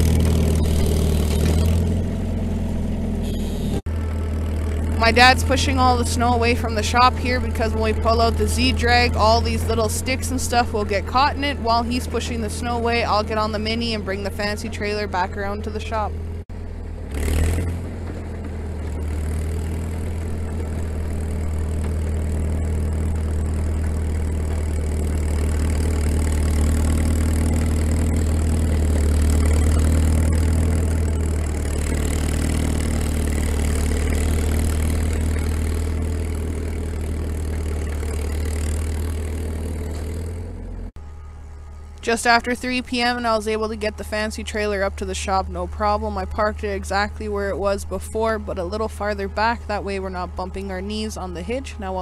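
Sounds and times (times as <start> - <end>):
small engine humming: 0.0 - 52.0.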